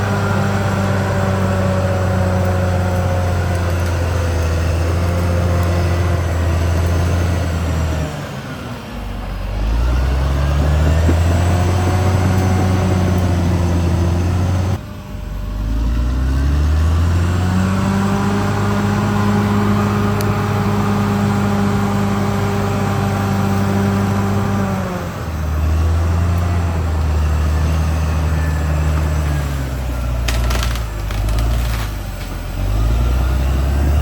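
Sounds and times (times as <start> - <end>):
bulldozer diesel engine revving: 0.0 - 34.0.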